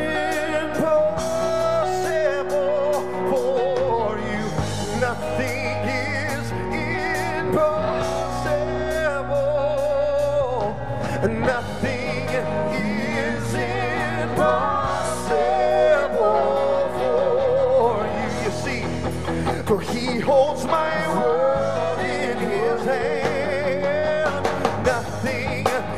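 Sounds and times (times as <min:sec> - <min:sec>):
live gospel band playing: 0:00.0 - 0:25.9
singers with wide vibrato: 0:00.0 - 0:25.9.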